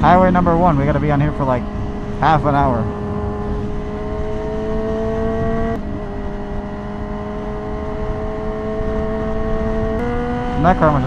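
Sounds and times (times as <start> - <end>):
sport bike engine under throttle: 0.0 - 11.0
wind rush: 0.0 - 11.0.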